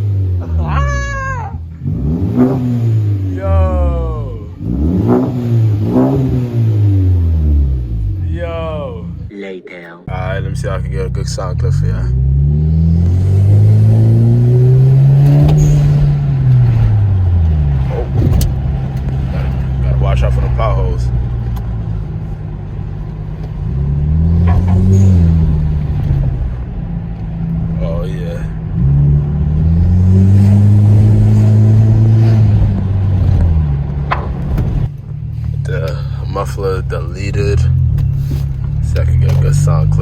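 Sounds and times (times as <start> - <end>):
loud car exhaust drone: 0.0 - 9.3, 10.1 - 40.0.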